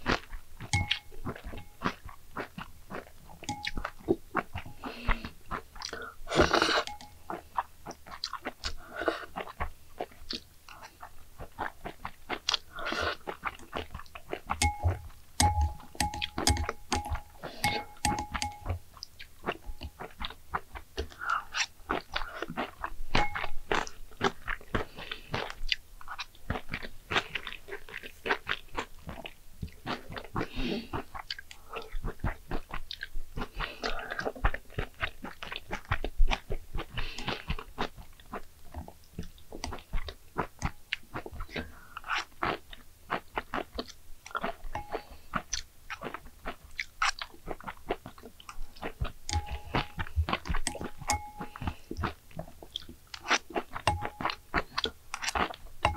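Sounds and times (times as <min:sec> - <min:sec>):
wet chewing and mouth sounds: 0:00.0 - 0:55.9.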